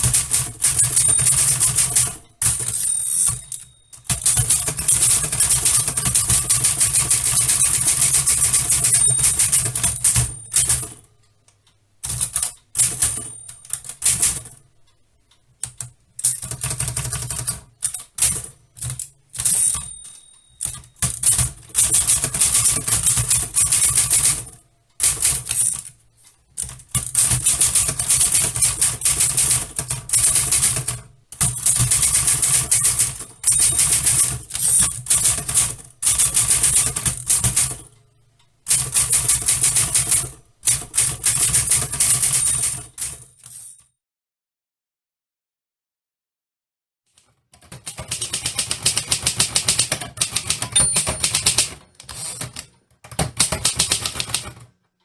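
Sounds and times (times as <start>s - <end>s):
typewriter key strikes: 0.0s - 11.0s, 12.0s - 14.6s, 15.6s - 26.0s, 26.6s - 37.9s, 38.7s - 43.8s, 47.6s - 54.7s.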